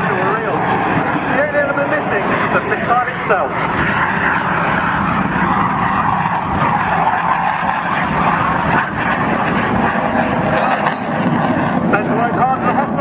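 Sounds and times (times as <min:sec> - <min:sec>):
jet aircraft roaring: 0:00.0 - 0:13.0.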